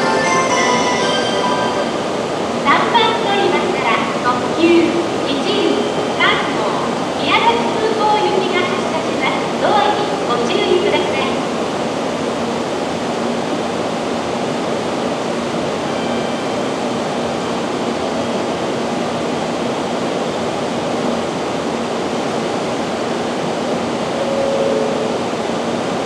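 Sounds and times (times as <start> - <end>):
train ventilation fans hissing: 2.0 - 24.2.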